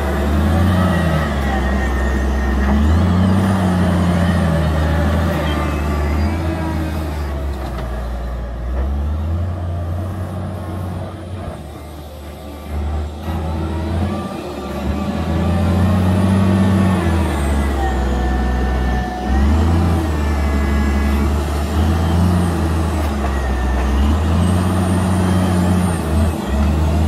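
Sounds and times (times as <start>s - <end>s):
wheel loader diesel engine: 0.0s - 27.0s.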